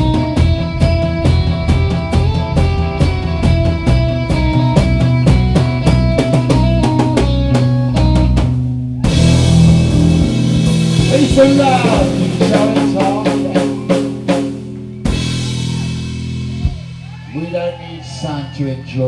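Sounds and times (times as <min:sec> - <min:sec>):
drum kit beat: 0:00.0 - 0:18.1
electric guitar: 0:00.0 - 0:18.9
electric bass: 0:00.0 - 0:19.0.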